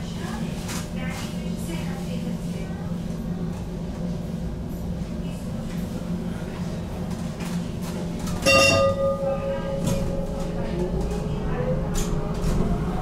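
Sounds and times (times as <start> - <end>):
tram interior hum and rumble: 0.0 - 13.0.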